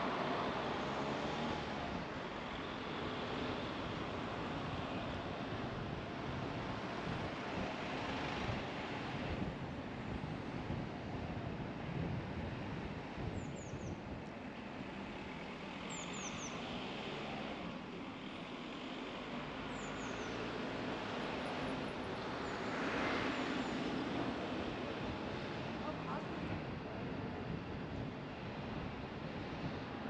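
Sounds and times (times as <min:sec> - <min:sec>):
car road and tyre noise: 0:00.0 - 0:30.0.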